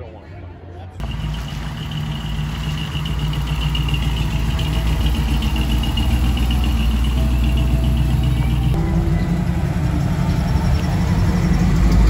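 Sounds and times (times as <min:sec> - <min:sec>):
car engine idling: 0:01.0 - 0:12.0.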